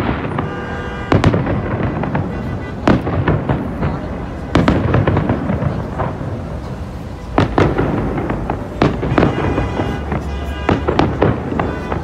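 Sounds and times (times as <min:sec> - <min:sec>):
fireworks bangs and crackle: 0:00.0 - 0:12.0
fireworks booming: 0:00.0 - 0:12.0.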